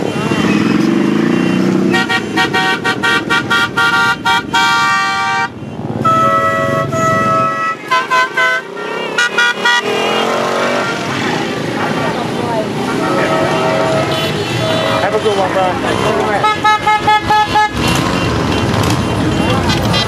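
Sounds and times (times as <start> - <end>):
motorcycle horns honking: 0.0 - 11.6, 12.2 - 20.0
motorcycle engines running: 0.0 - 20.0.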